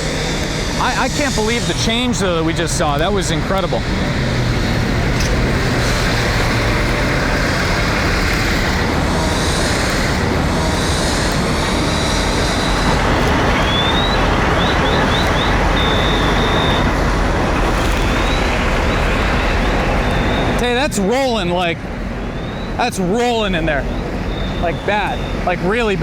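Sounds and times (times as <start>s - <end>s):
fire engine pumps rumbling: 0.0s - 26.0s.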